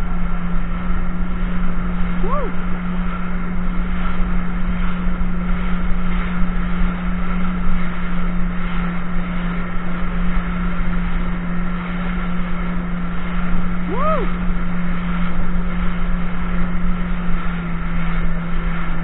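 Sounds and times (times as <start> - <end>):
water rushing: 0.0 - 5.9, 9.0 - 19.0
jet ski engine running: 0.0 - 19.0.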